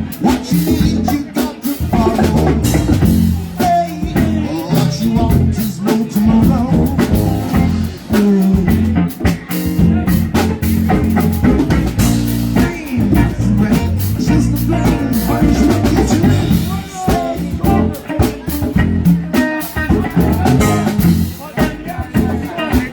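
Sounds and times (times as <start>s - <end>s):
bass guitar: 0.0s - 22.9s
drum kit beat: 0.0s - 22.9s
electric guitar: 0.0s - 22.9s
person singing: 0.0s - 22.9s.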